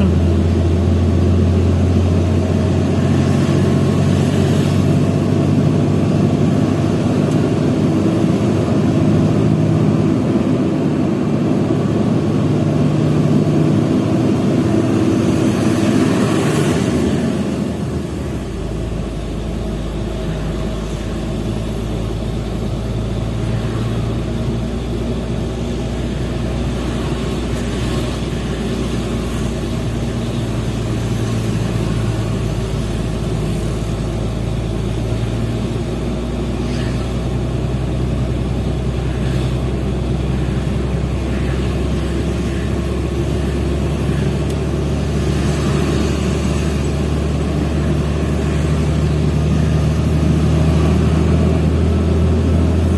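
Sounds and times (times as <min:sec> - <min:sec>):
truck diesel engine running: 0:00.0 - 0:52.9.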